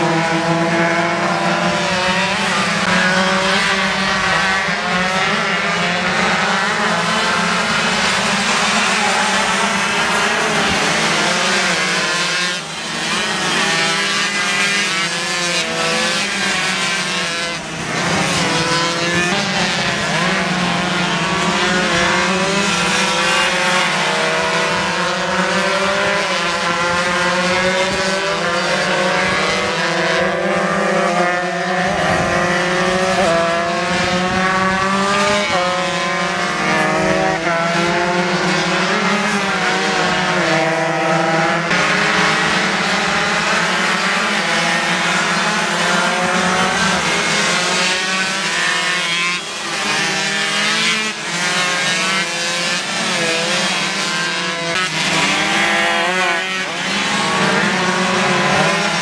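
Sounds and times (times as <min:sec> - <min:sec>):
racing motorcycles revving: 0:00.0 - 0:59.0.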